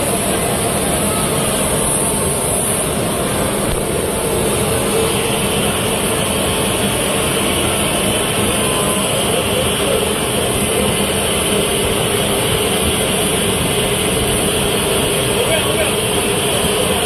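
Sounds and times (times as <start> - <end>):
heavy engines running: 0.0 - 17.0.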